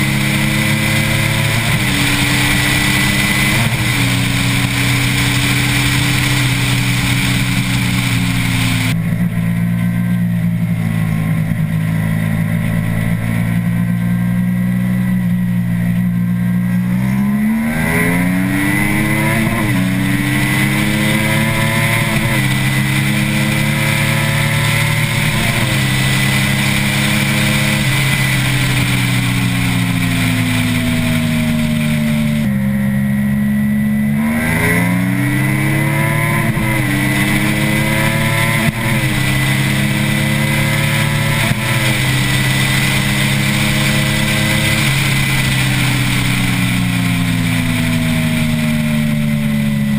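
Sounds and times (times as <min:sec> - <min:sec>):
vehicle engine running hard: 0:00.0 - 0:49.9
wind and road noise: 0:00.0 - 0:49.9.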